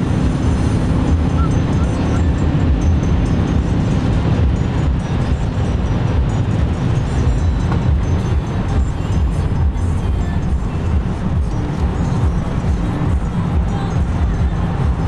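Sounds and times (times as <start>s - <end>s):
car engine rumble: 0.0s - 15.0s
road and tyre noise: 0.0s - 15.0s.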